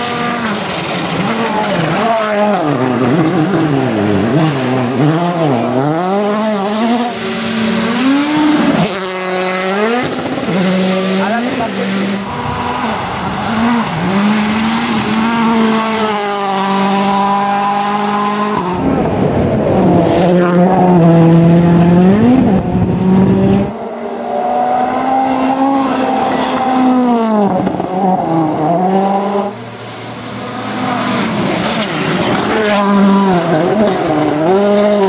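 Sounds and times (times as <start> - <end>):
rally car engines revving high: 0.0 - 35.0.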